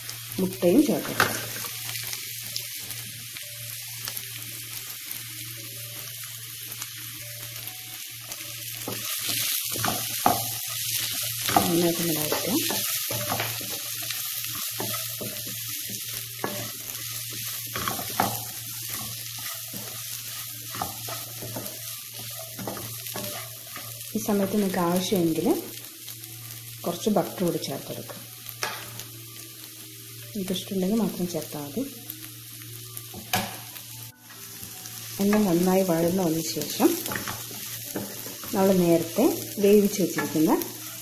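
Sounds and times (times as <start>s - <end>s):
food sizzling in a frying pan: 0.0s - 41.0s.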